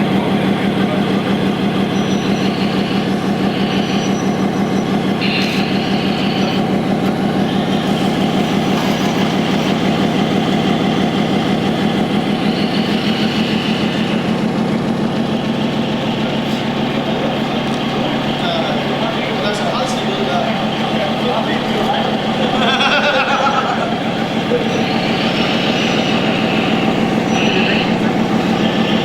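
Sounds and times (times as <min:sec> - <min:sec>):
model truck engine idling: 0:00.0 - 0:29.0.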